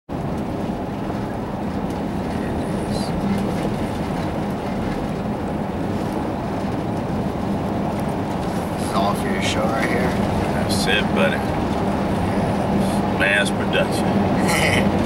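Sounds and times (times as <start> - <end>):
tyres rumbling on asphalt: 0.1 - 15.0.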